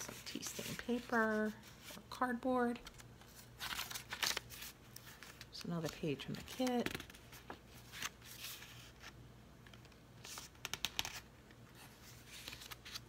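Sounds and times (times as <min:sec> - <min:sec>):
paper pages rustling: 0:00.0 - 0:02.1, 0:02.8 - 0:13.0.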